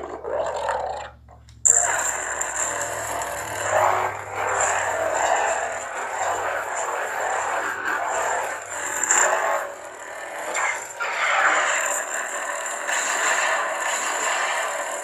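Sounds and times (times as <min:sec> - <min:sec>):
lightsaber buzzing crackling hum: 0:00.0 - 0:15.0.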